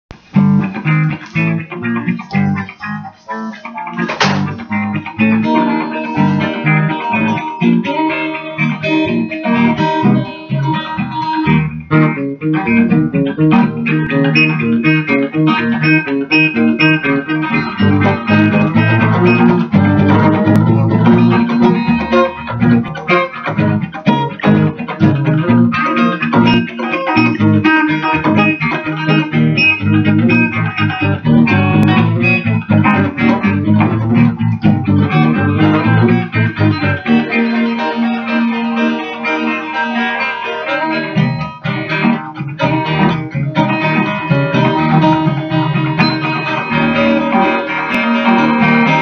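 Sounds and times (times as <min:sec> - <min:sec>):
electric guitars playing gospel: 0:00.1 - 0:49.0.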